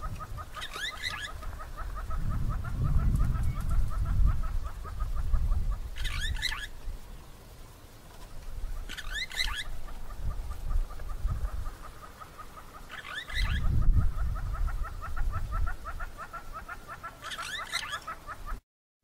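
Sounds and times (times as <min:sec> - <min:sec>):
birds rapid rising chattering: 0:00.0 - 0:18.6.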